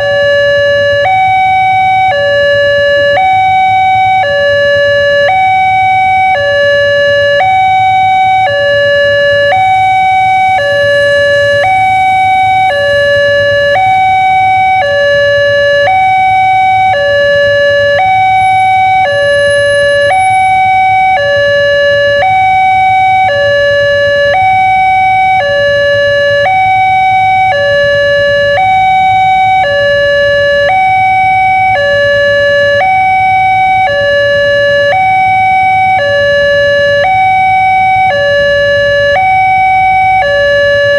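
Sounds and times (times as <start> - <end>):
electronic two-tone warning chime: 0.0 - 40.9.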